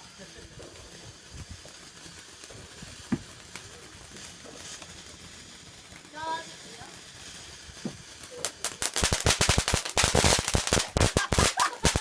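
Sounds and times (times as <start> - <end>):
firecrackers going off: 0.0 - 12.0.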